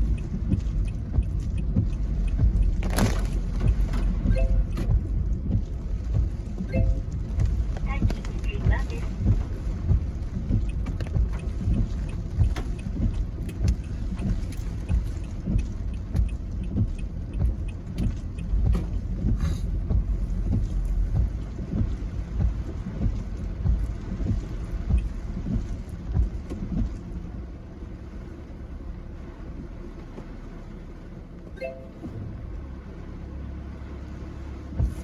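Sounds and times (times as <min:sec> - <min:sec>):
raindrops tapping: 0:00.0 - 0:28.4, 0:33.8 - 0:35.0.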